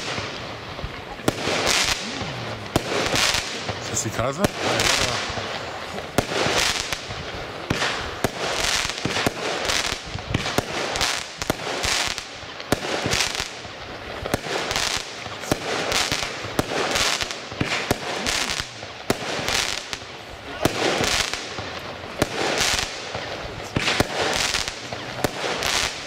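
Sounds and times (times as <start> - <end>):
firework bursts: 0.0 - 26.0
firework shots firing: 0.0 - 26.0.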